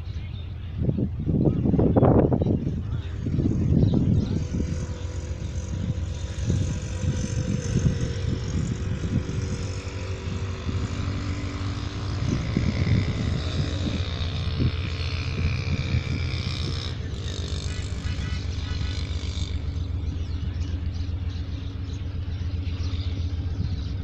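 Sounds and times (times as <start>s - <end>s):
diesel locomotive engine rumbling: 0.0s - 24.0s.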